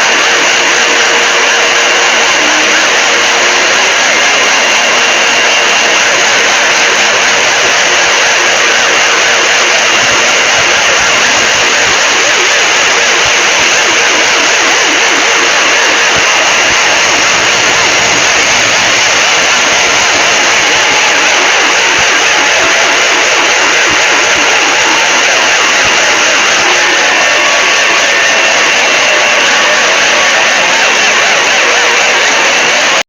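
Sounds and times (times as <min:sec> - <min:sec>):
distorted alarm static: 0:00.0 - 0:33.0.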